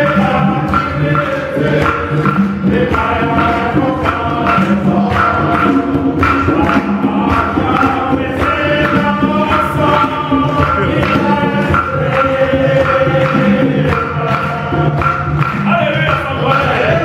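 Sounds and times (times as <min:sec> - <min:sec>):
hand drums beating: 0:00.0 - 0:17.0
men singing in harmony: 0:00.0 - 0:17.0.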